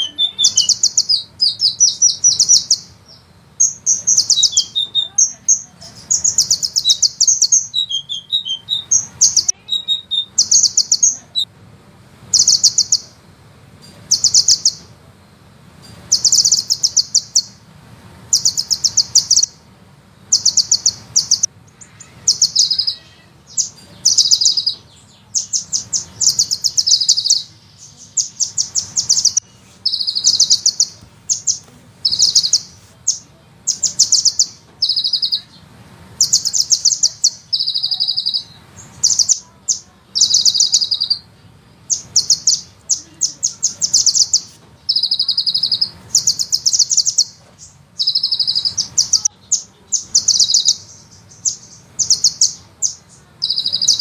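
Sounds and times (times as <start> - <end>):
bird high trills: 0.0 - 11.5, 12.3 - 13.2, 13.8 - 14.9, 15.8 - 17.6, 18.3 - 19.6, 20.3 - 35.6, 36.2 - 41.3, 41.9 - 54.0.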